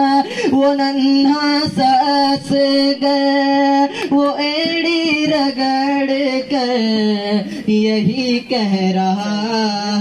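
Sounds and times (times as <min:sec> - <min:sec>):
person singing through loudspeaker: 0:00.0 - 0:10.0.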